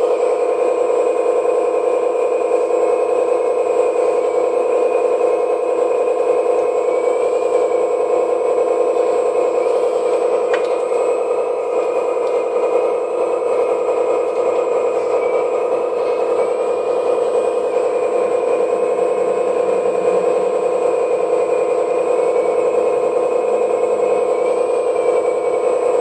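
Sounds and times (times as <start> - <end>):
excavator hydraulic pump drone: 0.0 - 26.0.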